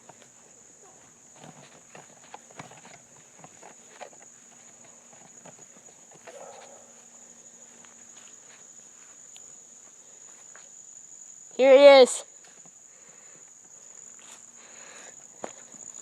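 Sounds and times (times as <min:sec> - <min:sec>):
light footsteps: 0:00.0 - 0:10.7, 0:13.4 - 0:16.0
insects chirring: 0:00.0 - 0:16.0.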